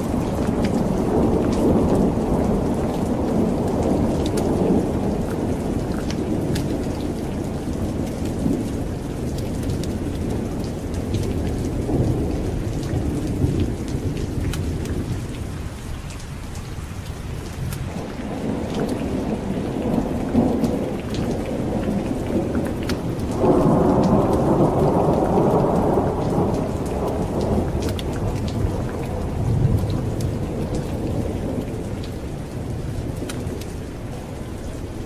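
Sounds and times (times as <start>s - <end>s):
rolling thunder: 0.0s - 15.7s, 17.4s - 35.0s
heavy rain: 0.0s - 35.0s.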